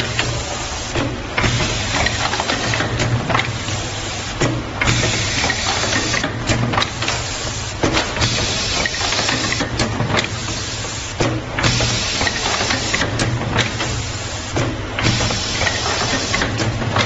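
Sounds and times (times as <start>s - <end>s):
mechanical clicks and clacks: 0.0s - 17.0s.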